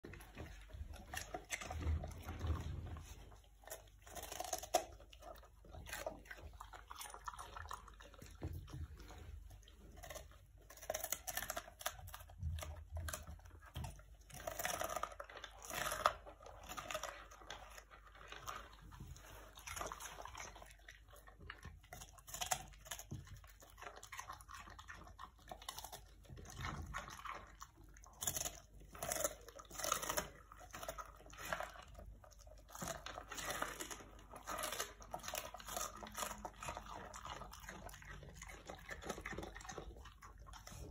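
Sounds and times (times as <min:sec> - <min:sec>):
dog chewing cabbage: 0:00.0 - 0:40.9.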